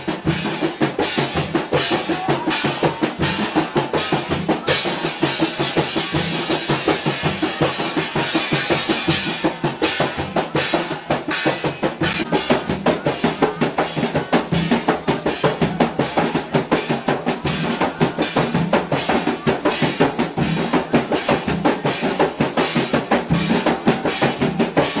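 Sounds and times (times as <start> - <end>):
hand-beaten frame drums: 0.0 - 25.0
stick-played drum: 0.0 - 25.0.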